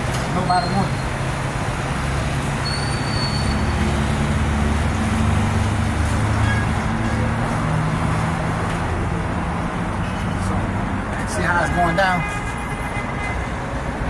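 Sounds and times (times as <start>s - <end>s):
road traffic noise: 0.0s - 14.0s
vehicle engine humming: 0.0s - 14.0s.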